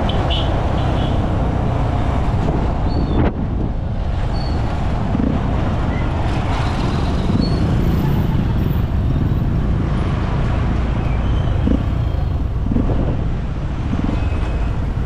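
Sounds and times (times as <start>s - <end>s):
vehicle rumble in traffic: 0.0s - 15.0s.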